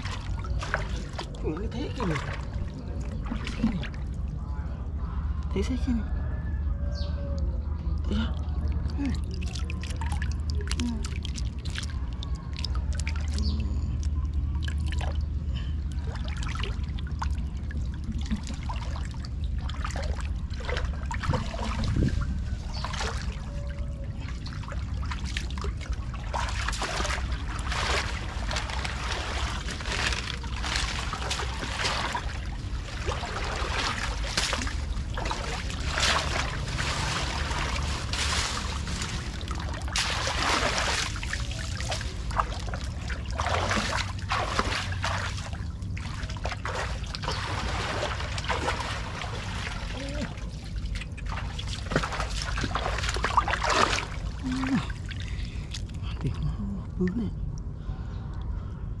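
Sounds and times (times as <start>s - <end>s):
water trickling and splashing: 0.0s - 4.6s, 8.0s - 56.4s
steady low rumble: 0.0s - 59.0s.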